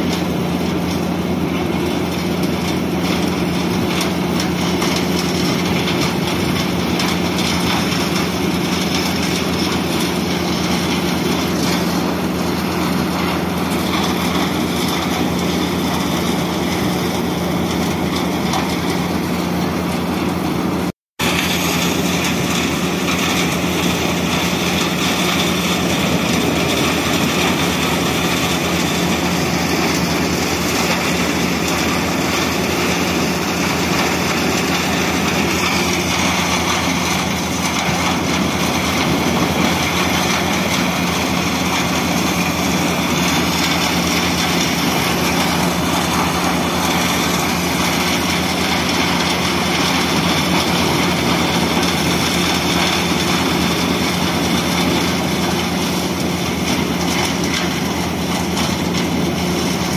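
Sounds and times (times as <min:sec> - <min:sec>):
wood chipper chipping branches: 0:00.0 - 0:59.9.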